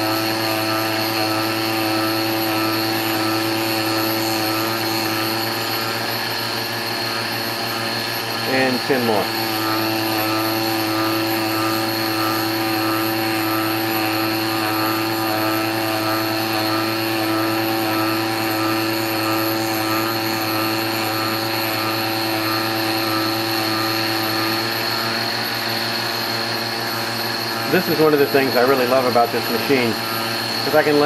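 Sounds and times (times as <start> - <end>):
lathe machine whine: 0.0 - 31.0.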